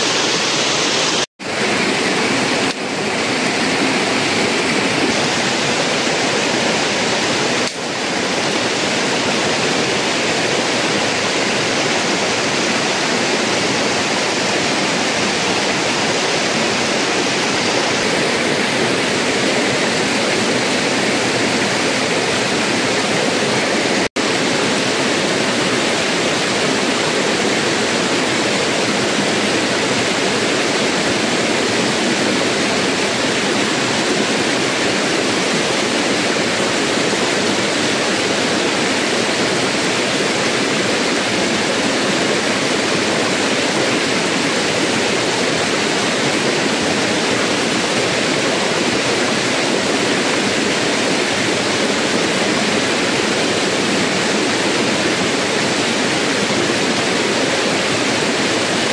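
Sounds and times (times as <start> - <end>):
stream rushing over stones: 0.0 - 58.9.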